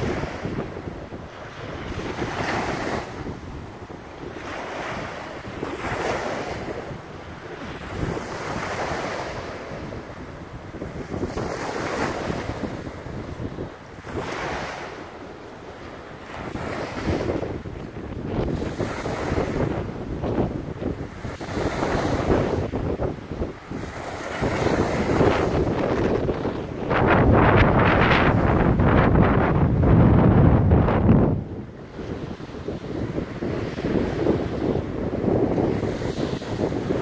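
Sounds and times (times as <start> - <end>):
waves washing on a sandy beach: 0.0 - 37.0
wind buffeting microphone: 0.0 - 37.0.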